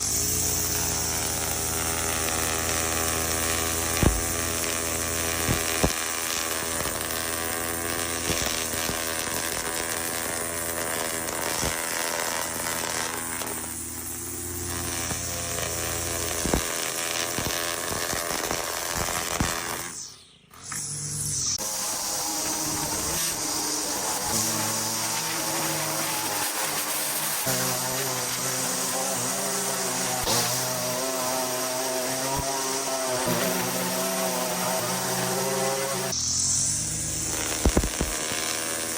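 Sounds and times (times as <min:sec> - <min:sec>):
lawn mower running: 0:00.0 - 0:20.0, 0:21.6 - 0:38.9.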